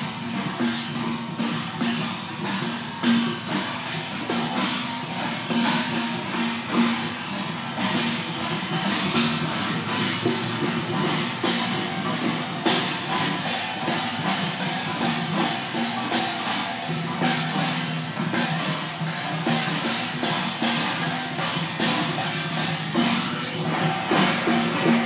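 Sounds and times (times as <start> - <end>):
cymbals: 0.0 - 25.0
drums: 0.0 - 25.0
gongs: 0.0 - 25.0.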